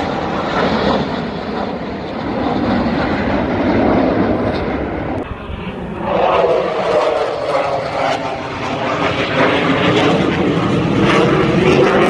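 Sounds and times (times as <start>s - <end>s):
jet engines passing overhead: 0.0s - 12.0s.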